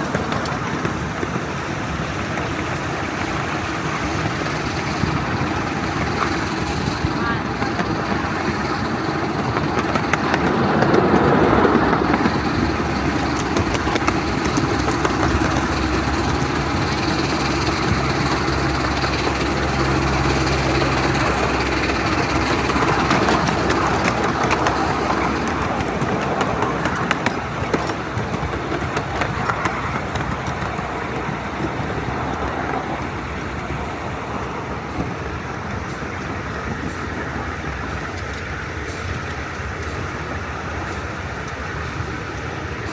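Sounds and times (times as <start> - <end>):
miniature steam train rumbling: 0.0 - 42.9
sharp clicks of train wheels: 0.0 - 42.9.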